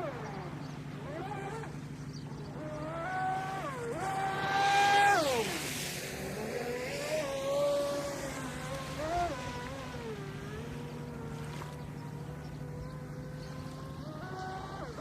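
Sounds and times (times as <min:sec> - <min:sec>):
electric boat motor whining: 0:00.0 - 0:15.0
rush of spray: 0:02.6 - 0:15.0.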